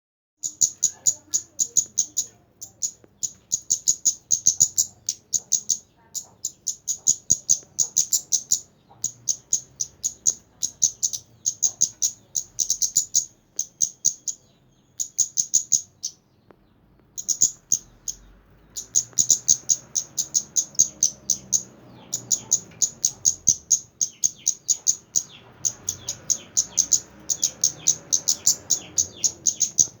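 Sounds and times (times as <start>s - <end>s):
bird singing high chirps: 0.4s - 30.0s.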